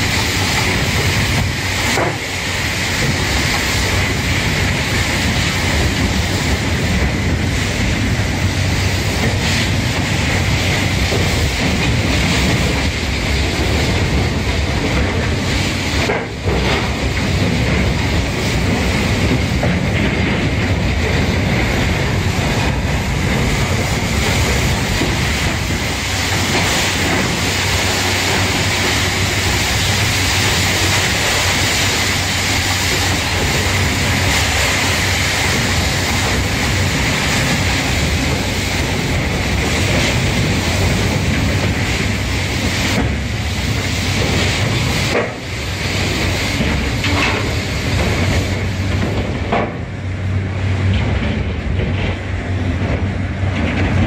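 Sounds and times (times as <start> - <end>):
rotating brushes scrubbing steel floor: 0.0 - 54.0.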